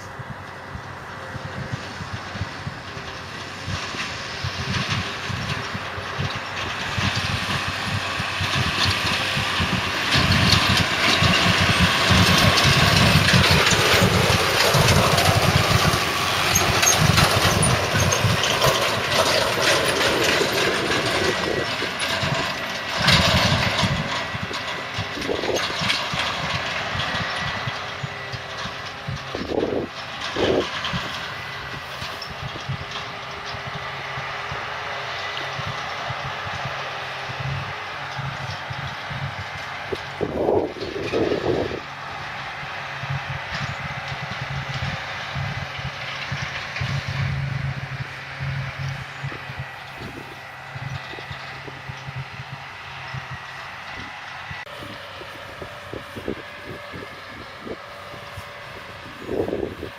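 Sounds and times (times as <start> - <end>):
farm machinery running and rattling: 0.0 - 59.9.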